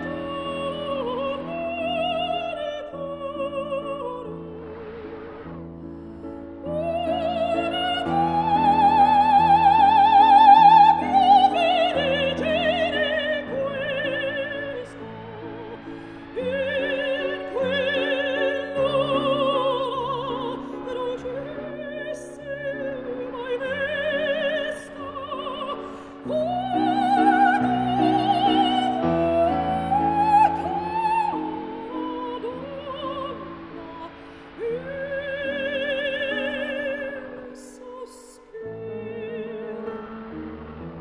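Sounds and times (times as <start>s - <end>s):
classical accompaniment: 0.0s - 41.0s
operatic singing with vibrato: 0.0s - 41.0s.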